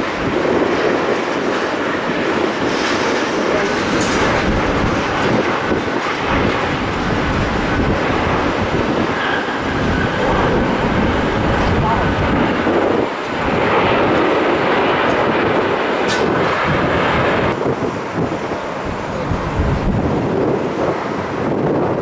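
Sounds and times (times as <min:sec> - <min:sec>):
jet airliner engine noise: 0:00.0 - 0:22.0.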